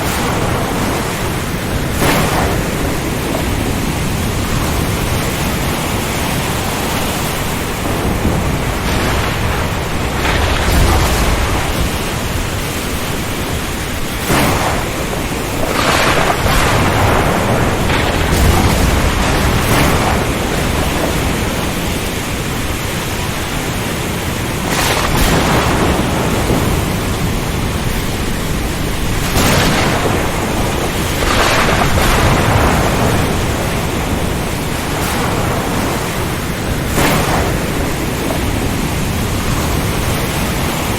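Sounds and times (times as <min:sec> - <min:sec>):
low rumbles of thunder: 0:00.0 - 0:23.9, 0:24.5 - 0:40.9
rain: 0:00.0 - 0:40.9
strong wind rushing: 0:00.0 - 0:40.9
waves: 0:00.0 - 0:40.9.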